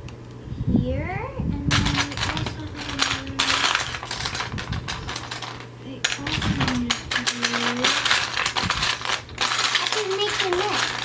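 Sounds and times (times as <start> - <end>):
plastic bricks clattering: 1.7 - 11.0.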